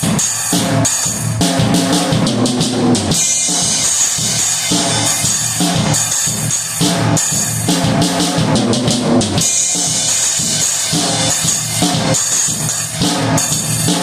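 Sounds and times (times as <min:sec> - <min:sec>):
bass drum and snare strikes: 0:00.0 - 0:14.0
cymbal wash: 0:00.0 - 0:14.0.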